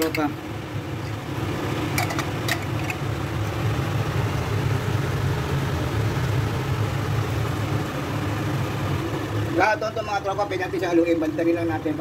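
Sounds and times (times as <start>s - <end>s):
fan air rush: 0.0s - 12.0s
low mechanical hum: 0.0s - 12.0s.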